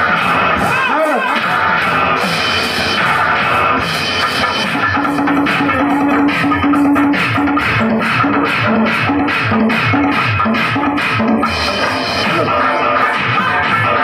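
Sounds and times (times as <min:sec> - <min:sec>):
bass line: 0:00.0 - 0:14.0
fast drum beat: 0:00.0 - 0:14.0
upbeat folk dance music: 0:00.0 - 0:14.0.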